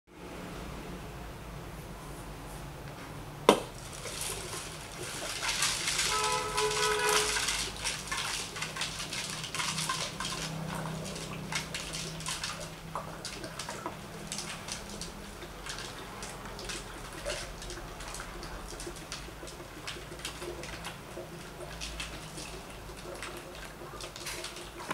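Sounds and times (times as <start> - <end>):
water gurgling through bottles: 3.6 - 24.9.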